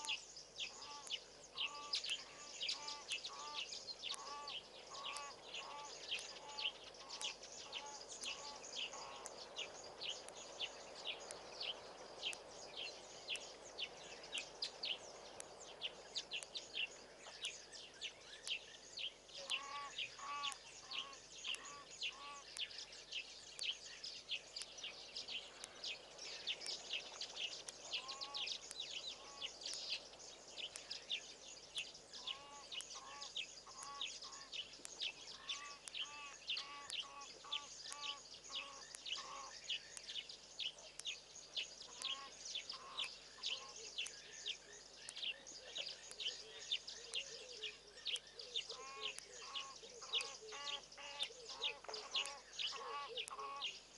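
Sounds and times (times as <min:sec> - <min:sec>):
birds chirping high: 0:00.0 - 0:53.9.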